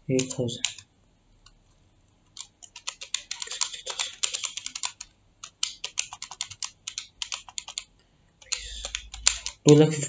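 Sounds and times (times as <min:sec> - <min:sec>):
keypad key clicks: 0:00.2 - 0:00.9, 0:02.4 - 0:09.8.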